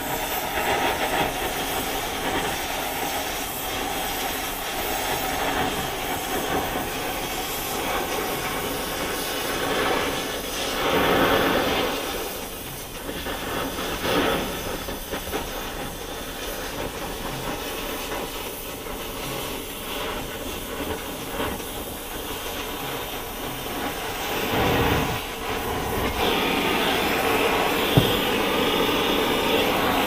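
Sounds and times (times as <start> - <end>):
gas torch flame hissing: 0.0 - 30.0.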